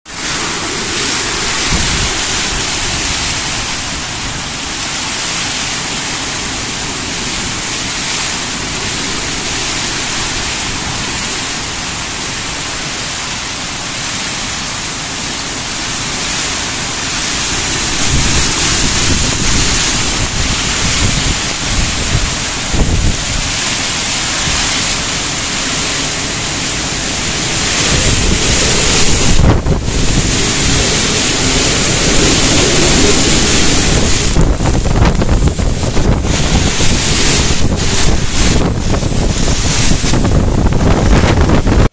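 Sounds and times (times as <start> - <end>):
wind buffeting microphone: 0.1 - 13.4, 15.2 - 41.9
heavy rain pouring: 0.1 - 41.9.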